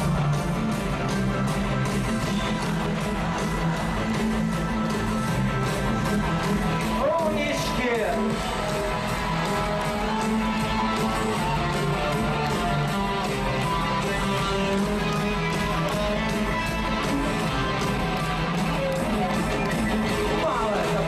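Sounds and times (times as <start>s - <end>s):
bass guitar: 0.0s - 21.0s
steady drum beat: 0.0s - 21.0s.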